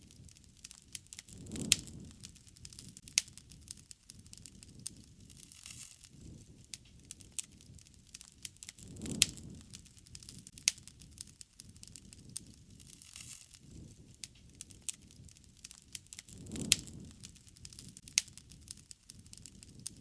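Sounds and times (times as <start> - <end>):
rushing flames: 0.0 - 20.0
wood fire crackling: 0.0 - 20.0.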